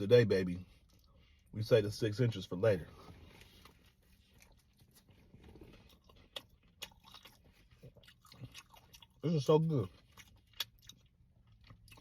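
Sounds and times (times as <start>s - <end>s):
chewing food: 0.7s - 1.5s, 3.0s - 12.0s.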